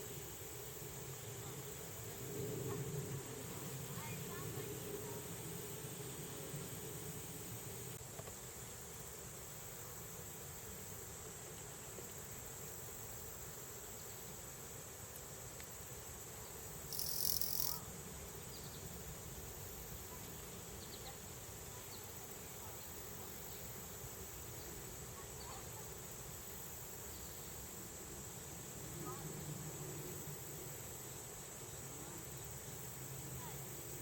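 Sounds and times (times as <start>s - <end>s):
crickets and insects chirping: 0.0s - 34.0s.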